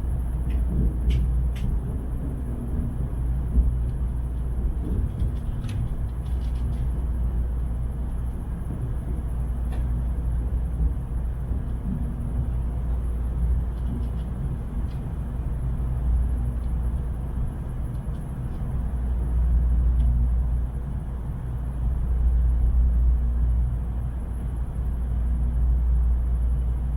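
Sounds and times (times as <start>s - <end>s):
train cabin rumble: 0.0s - 26.9s.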